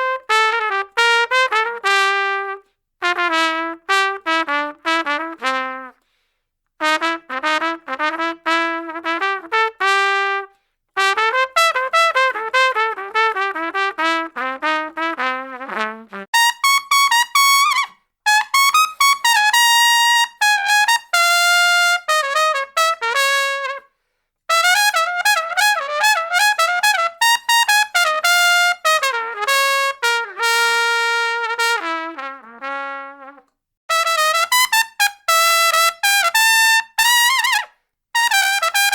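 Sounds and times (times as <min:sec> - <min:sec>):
solo trumpet playing: 0:00.0 - 0:06.0, 0:06.8 - 0:23.9, 0:24.5 - 0:38.9.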